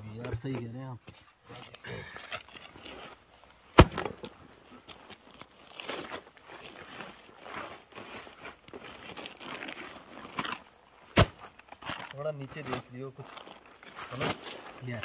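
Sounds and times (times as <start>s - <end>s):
footsteps crunching on ground: 0.4s - 15.0s.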